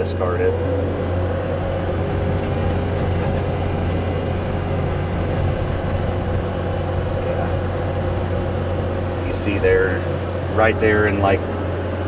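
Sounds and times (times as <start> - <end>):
diesel engine droning under load: 0.0 - 12.0.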